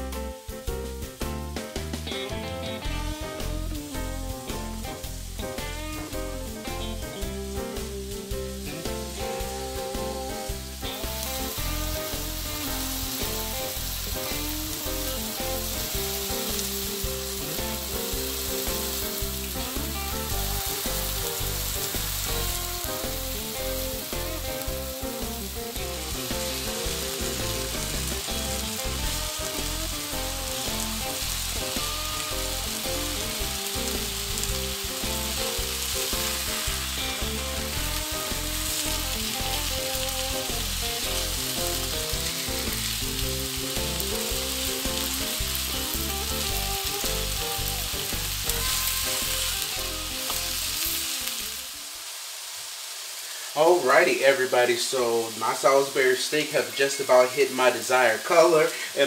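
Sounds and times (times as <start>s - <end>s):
beef patties sizzling: 0.0s - 59.0s.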